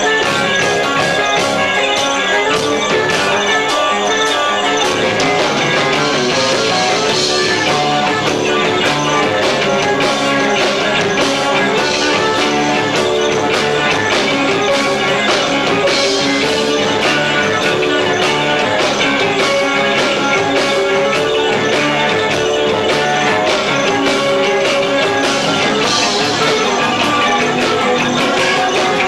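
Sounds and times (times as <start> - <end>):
rock band playing live: 0.0 - 29.0
drums hitting: 4.8 - 29.0.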